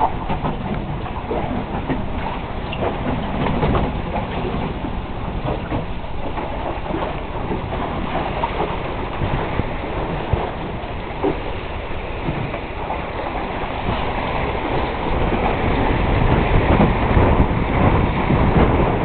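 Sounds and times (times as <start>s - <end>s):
sharp knocks from boat: 0.0s - 19.0s
water splashing along boat hull: 0.0s - 19.0s
wind rumble on microphone: 0.0s - 19.0s.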